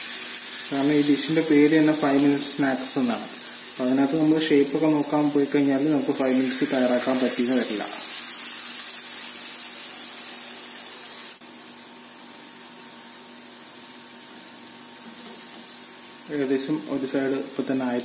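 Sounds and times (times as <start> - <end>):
fritters sizzling in oil: 0.0 - 18.0.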